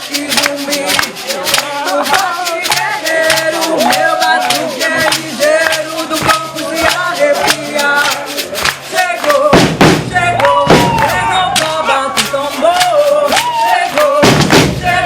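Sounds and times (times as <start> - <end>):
quick drum strokes: 0.0 - 15.0
voices singing: 0.0 - 15.0.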